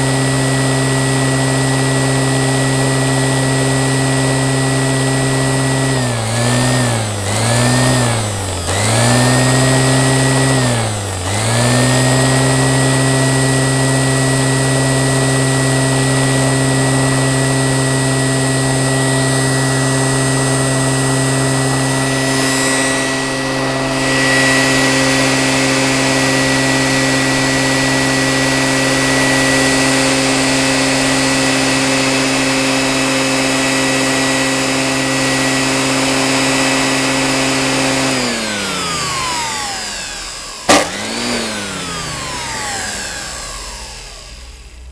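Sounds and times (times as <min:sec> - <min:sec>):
electric motor humming: 0:00.0 - 0:44.9.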